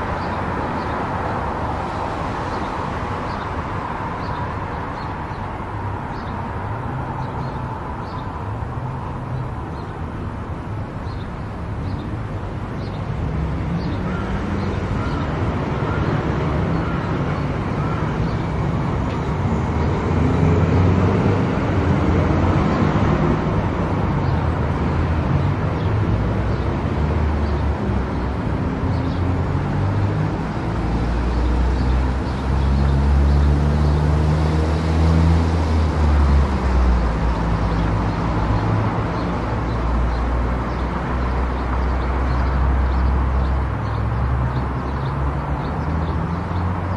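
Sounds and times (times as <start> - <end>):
tyre and road noise: 0.0 - 46.9.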